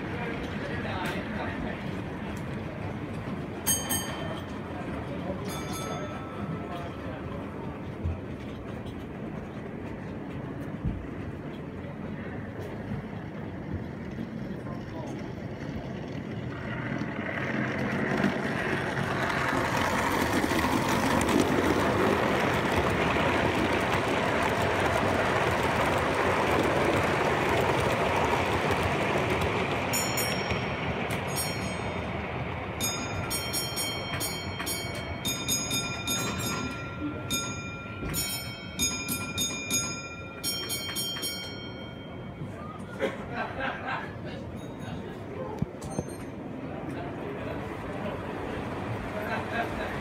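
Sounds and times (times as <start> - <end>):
model train wheels rumbling: 0.0 - 42.5.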